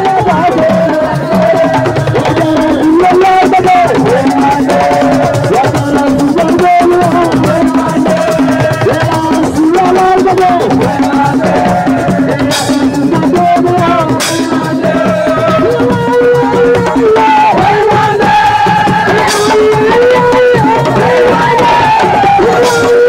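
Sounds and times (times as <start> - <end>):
drums: 0.0 - 23.0.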